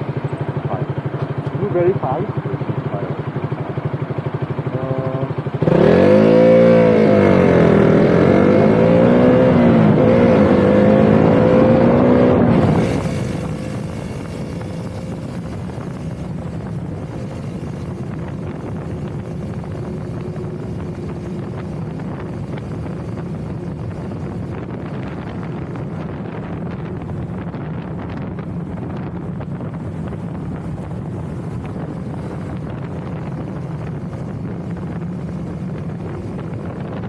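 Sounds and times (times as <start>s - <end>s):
motorcycle engine revving: 0.0s - 37.0s
wind and road noise: 0.0s - 37.0s.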